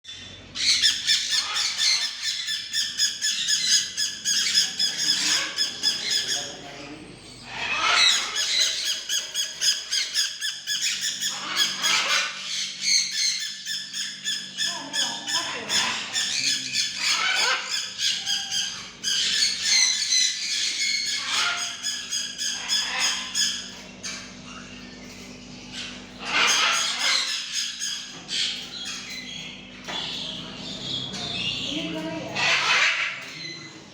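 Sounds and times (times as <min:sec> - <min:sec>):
macaw squawking: 0:00.5 - 0:06.8, 0:07.4 - 0:24.3, 0:25.7 - 0:33.9.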